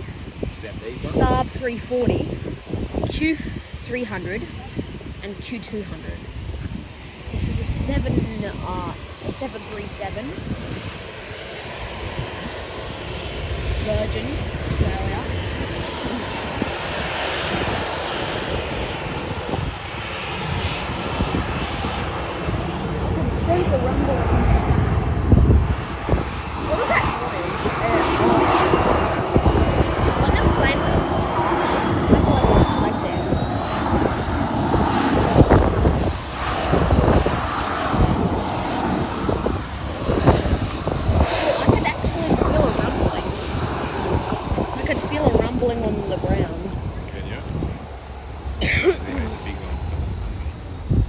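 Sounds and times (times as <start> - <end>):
high engine whine: 0.0 - 51.0
jet engines rumbling: 0.0 - 51.0.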